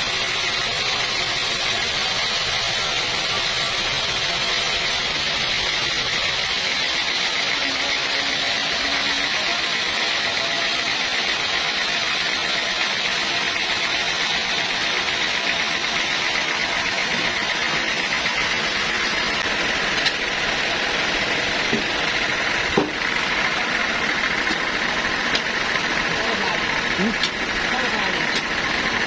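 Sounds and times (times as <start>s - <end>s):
sawmill machinery whirring: 0.0s - 29.0s.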